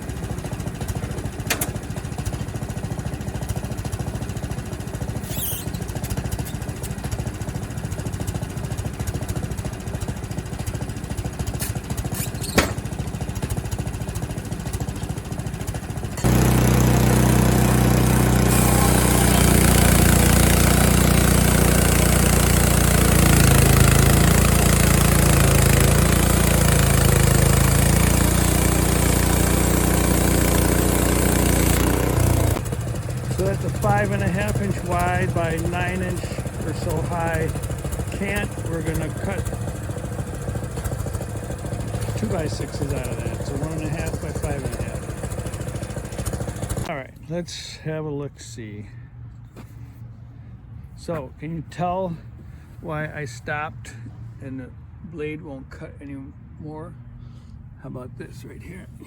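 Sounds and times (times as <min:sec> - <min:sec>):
sawmill gas engine running: 0:00.0 - 0:47.8.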